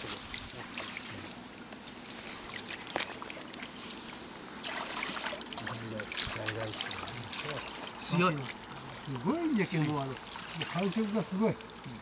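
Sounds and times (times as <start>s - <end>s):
small splashes and knocks: 0.0s - 12.0s
water trickling and sloshing: 0.0s - 12.0s.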